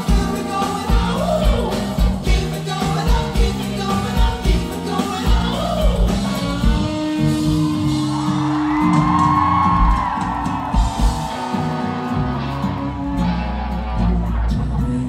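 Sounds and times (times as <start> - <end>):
band vocals: 0.0 - 15.0
bass: 0.0 - 15.0.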